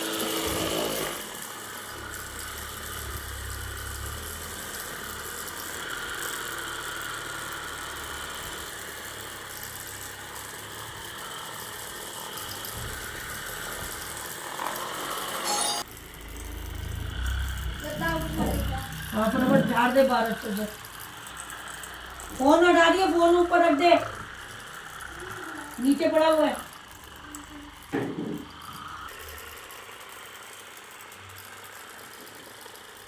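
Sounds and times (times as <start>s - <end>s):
massage device motor humming: 0.0s - 33.0s.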